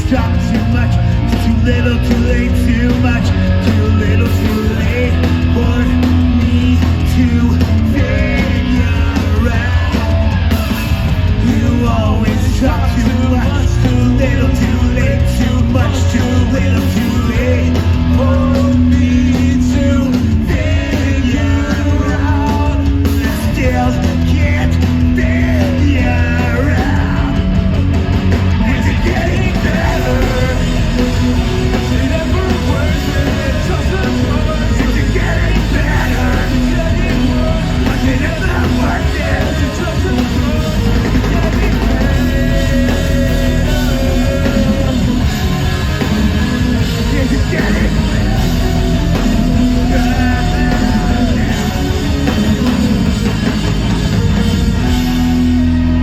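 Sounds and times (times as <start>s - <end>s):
bass guitar: 0.0s - 56.0s
drums: 0.0s - 56.0s
electric guitars: 0.0s - 56.0s
person singing lead vocal: 0.0s - 56.0s.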